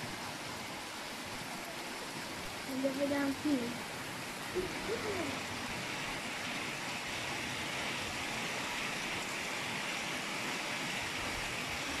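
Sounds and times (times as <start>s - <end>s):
heavy rain splashing on street: 0.0s - 12.0s.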